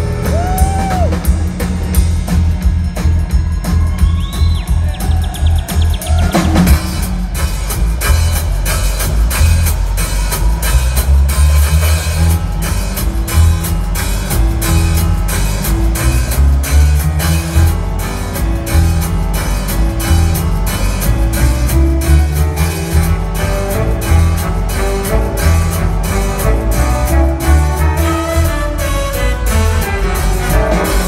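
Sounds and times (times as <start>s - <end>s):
drum kit pounding: 0.0s - 31.0s
pulsing bass line: 0.0s - 31.0s.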